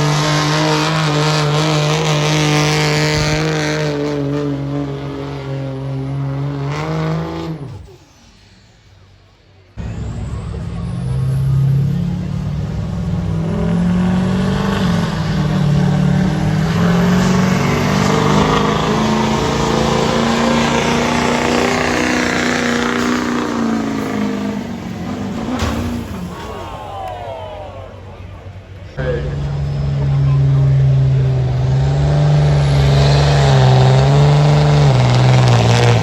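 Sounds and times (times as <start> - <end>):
diesel truck engine at full throttle: 0.0 - 36.0.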